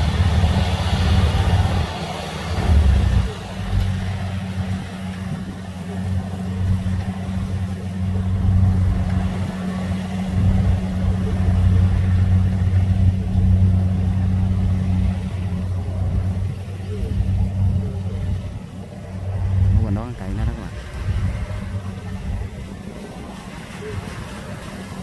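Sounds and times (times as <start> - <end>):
combine harvester diesel engine hum: 0.0 - 25.0.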